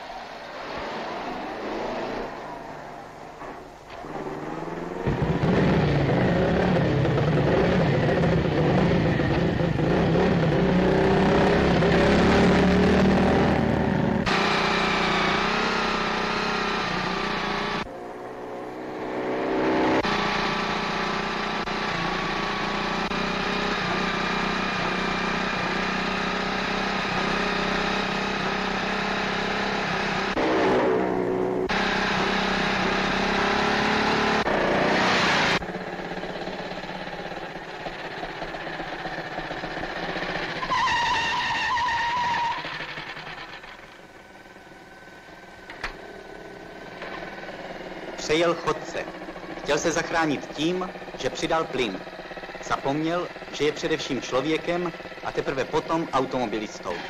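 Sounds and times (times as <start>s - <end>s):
motorcycle and car engines: 0.0s - 57.0s.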